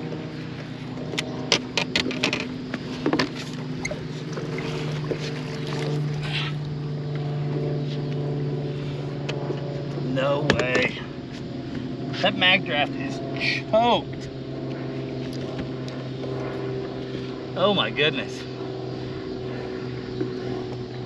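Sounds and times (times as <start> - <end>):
electric trolling motor humming: 0.0 - 21.0.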